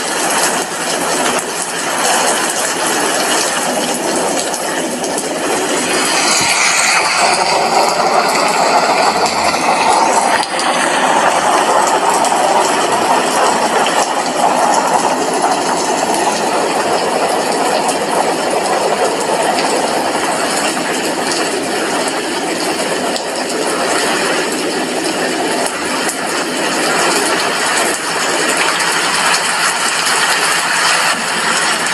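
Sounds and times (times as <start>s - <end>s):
rain pattering on window glass: 0.0s - 31.9s.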